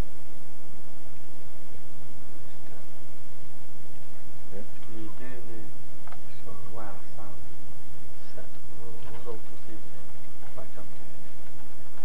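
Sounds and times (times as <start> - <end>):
low hum: 0.0 - 12.0
videotape hiss: 0.0 - 12.0.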